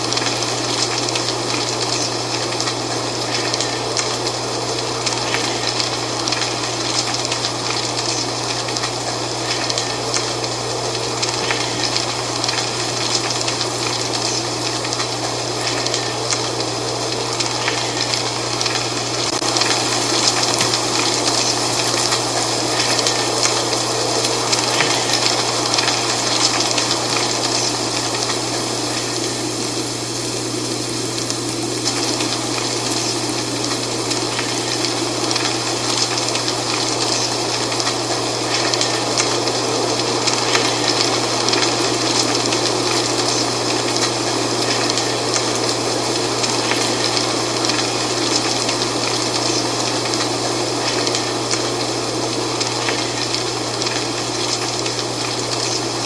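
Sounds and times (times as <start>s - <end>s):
dry leaves rustling in wind: 0.0s - 56.0s.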